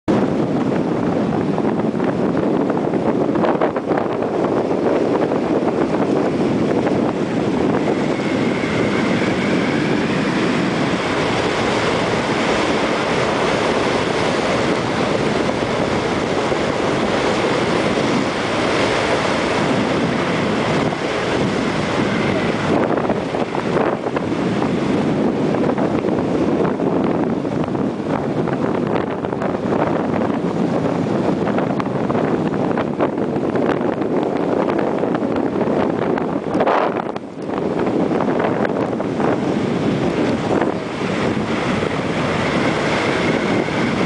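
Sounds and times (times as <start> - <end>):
wind buffeting microphone: 0.0 - 44.0
sea water surging past hull: 0.1 - 44.0.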